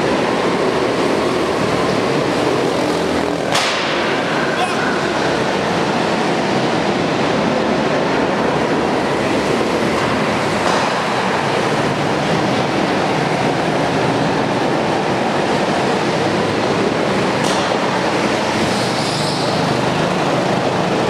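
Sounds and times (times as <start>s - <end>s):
go-kart engines droning: 0.0s - 21.0s.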